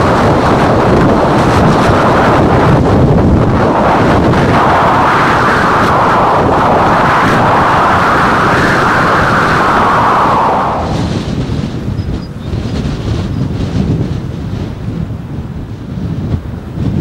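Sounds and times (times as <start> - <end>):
gusting wind buffeting microphone: 0.0 - 17.0.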